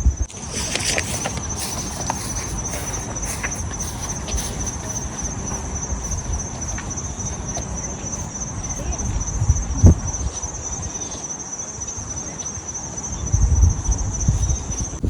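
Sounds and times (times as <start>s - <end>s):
insects trilling: 0.0s - 15.0s
background hiss: 0.3s - 15.0s.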